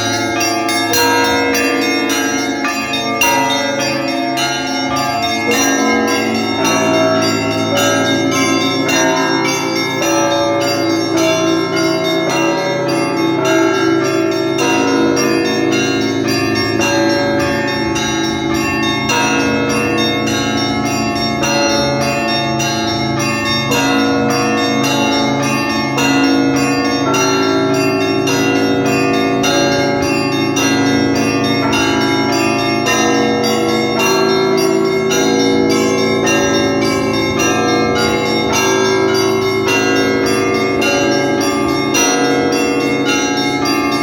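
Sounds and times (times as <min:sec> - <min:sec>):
large bells ringing: 0:00.0 - 0:44.0
small bells struck quickly: 0:00.0 - 0:44.0.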